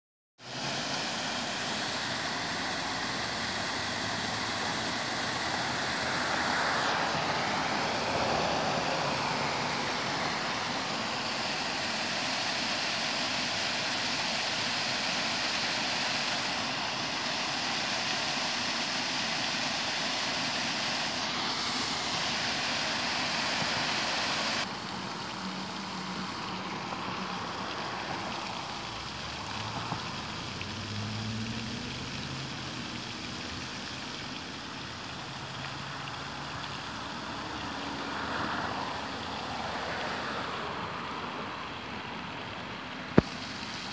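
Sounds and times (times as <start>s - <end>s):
fountain spray splashing: 0.4s - 43.9s
waterfall splashing into pond: 0.4s - 43.9s.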